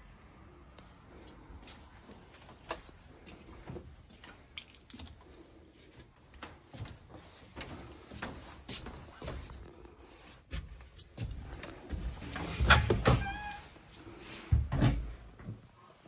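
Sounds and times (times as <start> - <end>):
footsteps on wooden porch: 0.7 - 16.0.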